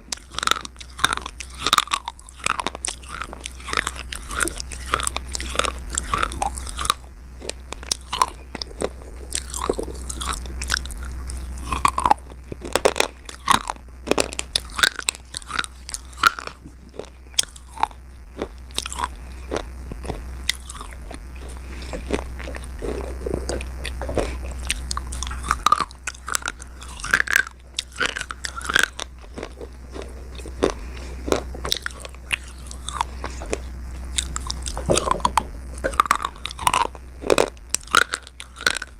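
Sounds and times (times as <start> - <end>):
low steady hum: 0.0 - 38.9
teeth crunching slate: 0.0 - 38.9.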